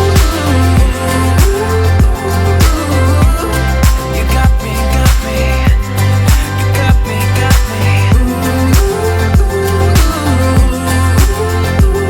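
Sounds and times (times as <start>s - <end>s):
pop song with kick drum and bass: 0.0s - 12.0s.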